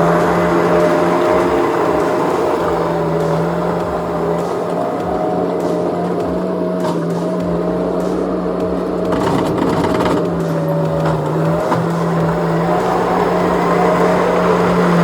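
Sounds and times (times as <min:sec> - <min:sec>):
high steady whine: 0:00.0 - 0:15.0
skid steer engine running: 0:00.0 - 0:15.0.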